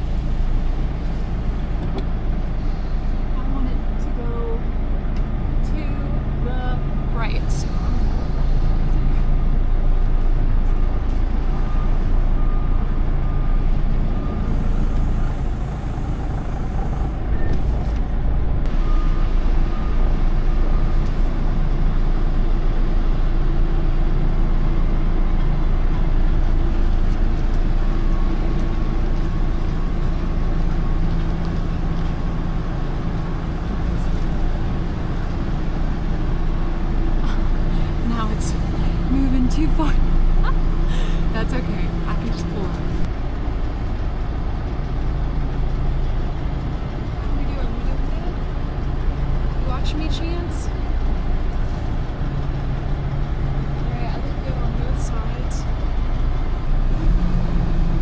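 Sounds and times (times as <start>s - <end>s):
truck diesel engine rumbling: 0.0s - 58.0s.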